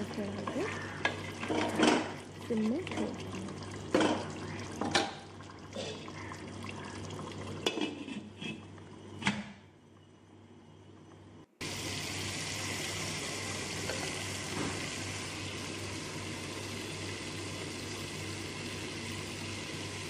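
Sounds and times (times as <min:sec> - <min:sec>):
curry sizzling in a pan: 0:00.0 - 0:08.2, 0:11.6 - 0:20.0.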